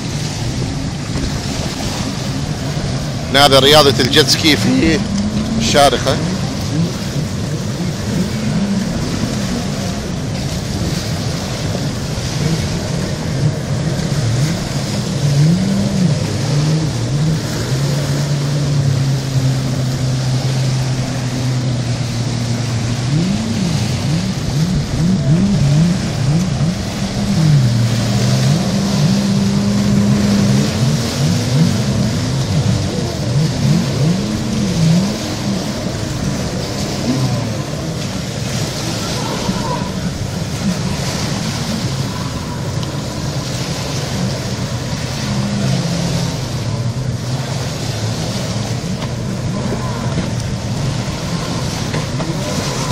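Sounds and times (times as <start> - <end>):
jet ski engine revving: 0.0 - 52.9
rush of noise: 0.0 - 52.9.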